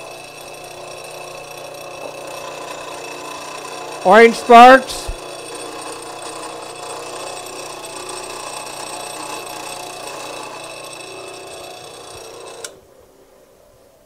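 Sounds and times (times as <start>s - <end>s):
bench grinder grinding metal: 0.0s - 12.8s.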